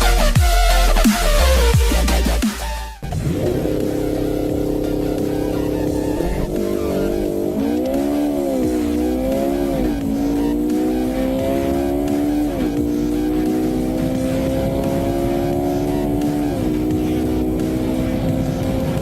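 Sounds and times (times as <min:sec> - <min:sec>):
car engine accelerating: 0:03.0 - 0:19.0.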